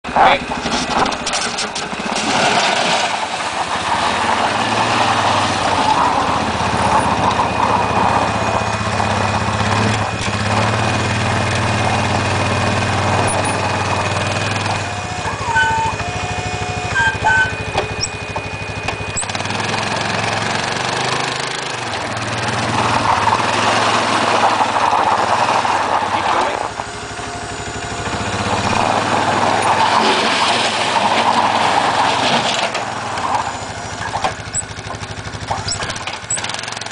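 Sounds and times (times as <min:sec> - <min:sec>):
engine revving under load: 0:00.0 - 0:36.9.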